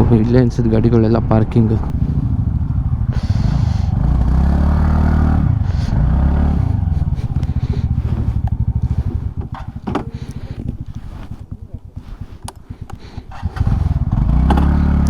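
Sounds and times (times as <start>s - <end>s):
motorcycle engine revving and idling: 0.0s - 15.0s.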